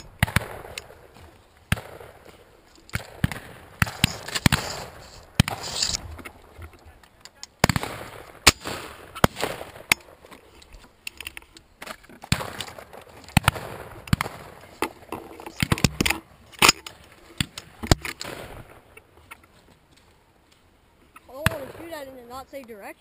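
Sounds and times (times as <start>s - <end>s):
brush rustling: 0.0s - 23.0s.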